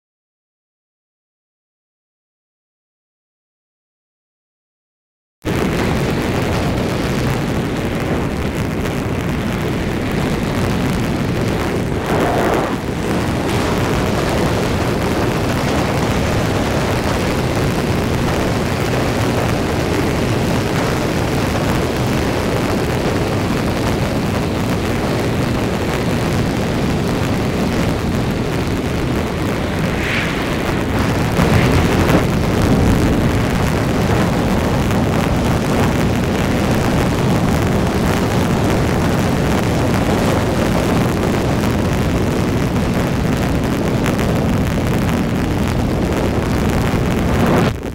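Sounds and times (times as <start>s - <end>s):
vehicle driving on highway: 5.8s - 44.4s.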